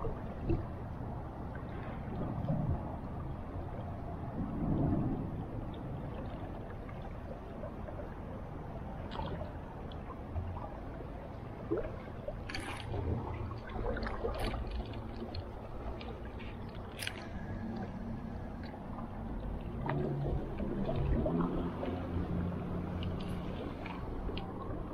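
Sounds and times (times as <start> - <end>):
river flowing and gurgling: 0.0 - 24.9
wind rumble on microphone: 0.0 - 24.9.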